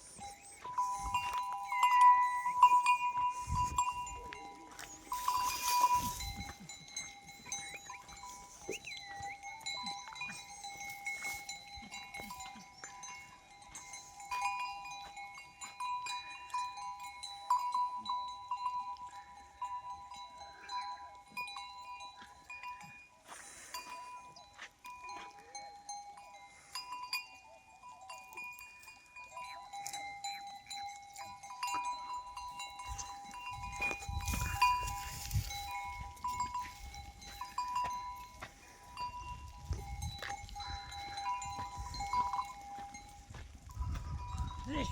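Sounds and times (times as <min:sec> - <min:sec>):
goats feeding clicks and snaps: 0:00.0 - 0:44.9.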